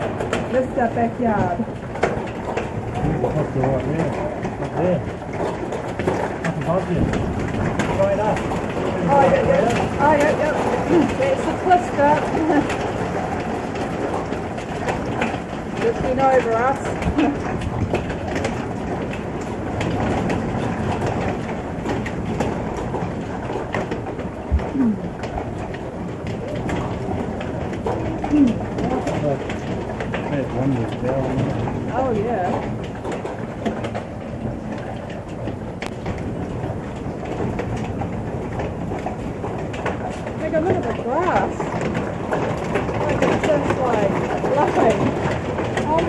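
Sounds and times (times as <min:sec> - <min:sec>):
hailstones ticking: 0:00.0 - 0:46.0
storm wind rumble: 0:00.0 - 0:46.0.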